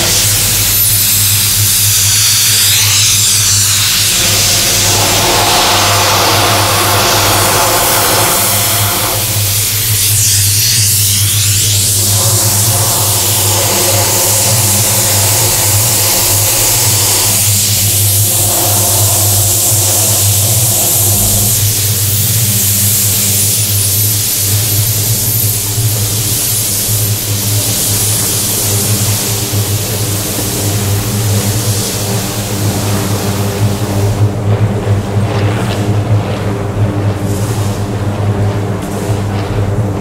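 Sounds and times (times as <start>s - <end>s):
high hiss: 0.0s - 34.0s
machine-like drone: 0.0s - 40.0s.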